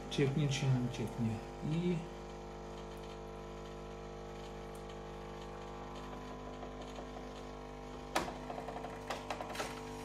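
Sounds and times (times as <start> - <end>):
water pump humming: 0.0 - 10.0.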